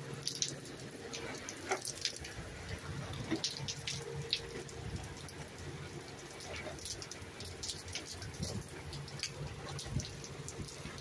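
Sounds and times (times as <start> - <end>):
rain splashing on pavement: 0.0 - 11.0.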